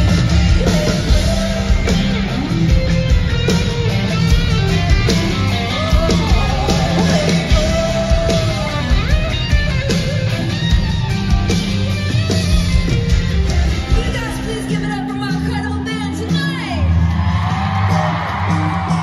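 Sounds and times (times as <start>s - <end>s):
drums: 0.0s - 19.0s
electric guitar: 0.0s - 19.0s
live rock band playing: 0.0s - 19.0s.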